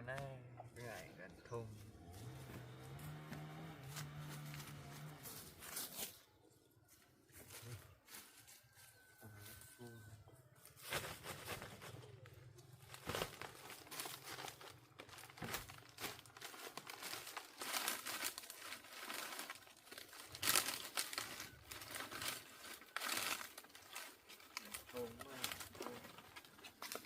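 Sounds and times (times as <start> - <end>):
crinkling and rustling: 1.8 - 9.2, 10.6 - 27.0.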